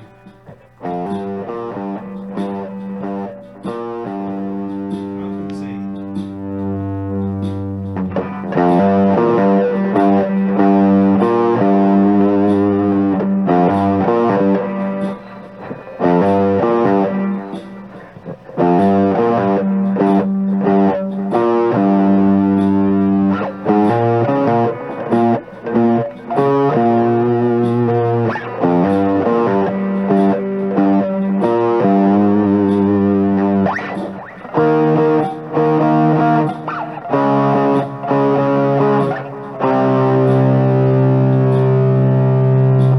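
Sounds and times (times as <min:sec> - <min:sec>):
distorted electric guitar: 0:00.0 - 0:42.9.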